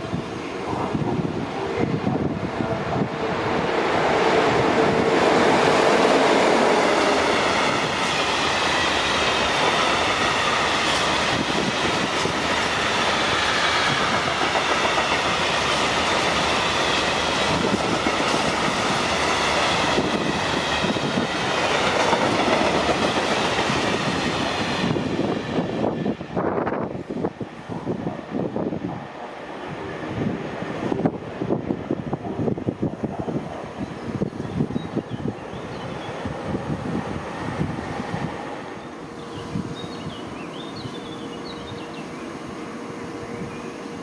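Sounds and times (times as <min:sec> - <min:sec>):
train wheels on track: 0:00.0 - 0:44.0.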